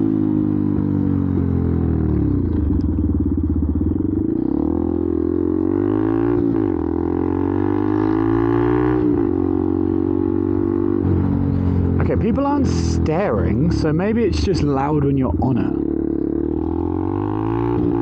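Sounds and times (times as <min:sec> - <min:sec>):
loud motorcycle engine revving: 0:00.0 - 0:14.1, 0:15.4 - 0:18.0.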